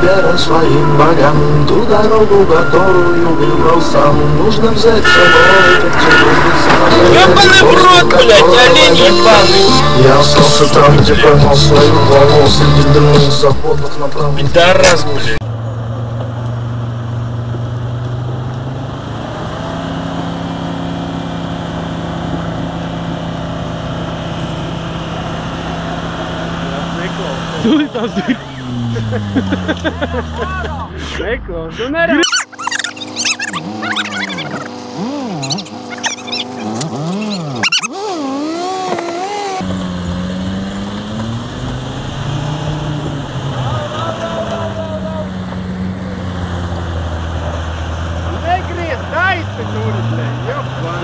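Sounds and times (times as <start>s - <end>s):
van engine running hard: 0.0s - 51.0s.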